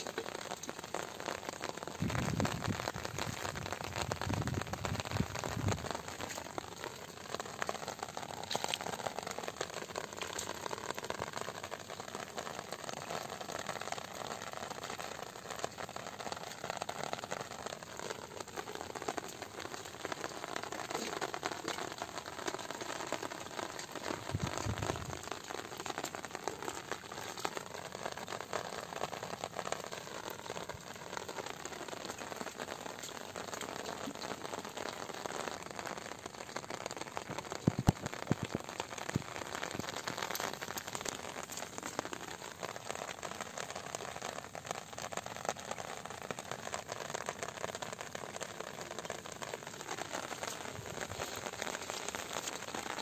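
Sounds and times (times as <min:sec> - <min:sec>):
rain on wet grass: 0:00.0 - 0:53.0.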